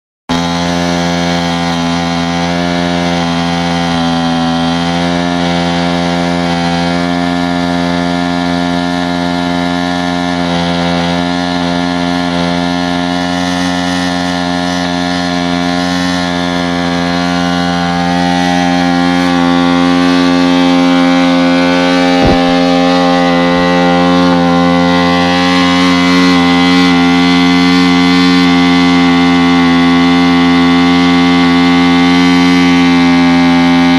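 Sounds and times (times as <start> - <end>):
motorcycle engine running: 0.3 - 33.9.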